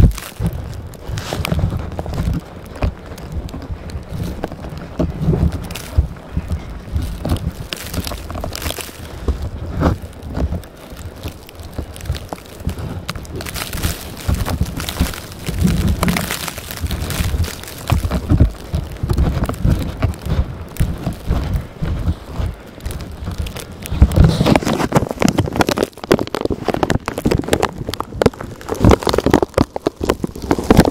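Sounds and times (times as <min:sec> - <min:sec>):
blizzard wind gusting on microphone: 0:00.0 - 0:30.9.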